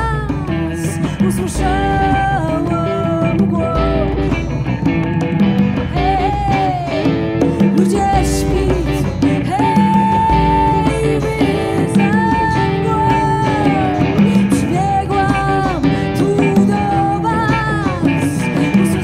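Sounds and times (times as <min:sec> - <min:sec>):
woman singing long notes: 0:00.0 - 0:04.6, 0:05.6 - 0:19.0
strummed guitars: 0:00.0 - 0:19.0.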